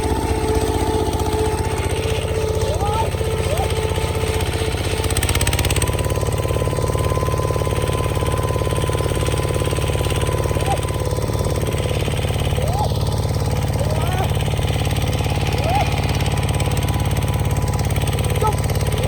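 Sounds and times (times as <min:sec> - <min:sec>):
bulldozer engine running: 0:00.0 - 0:19.0
fast rattling clatter: 0:00.0 - 0:19.0
thin steady whine: 0:00.0 - 0:19.0.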